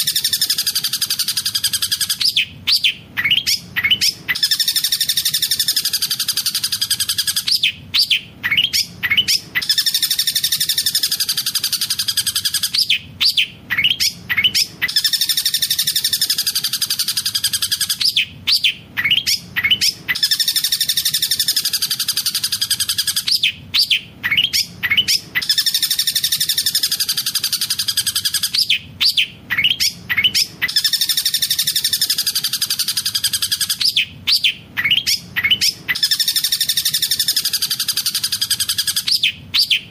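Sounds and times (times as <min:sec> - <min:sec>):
bird singing fast rolling trill: 0:00.0 - 0:39.9
mimicked kingfisher calls: 0:00.0 - 0:39.9.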